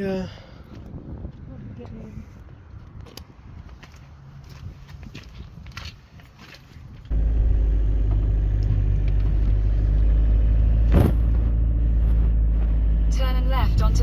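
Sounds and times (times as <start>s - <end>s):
vehicle engine and road noise: 0.6s - 14.0s.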